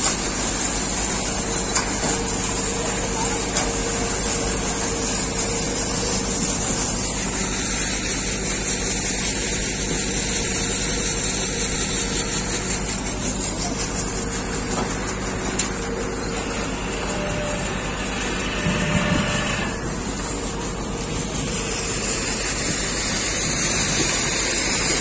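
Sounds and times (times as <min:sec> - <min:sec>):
construction machinery drone: 0:00.0 - 0:25.0.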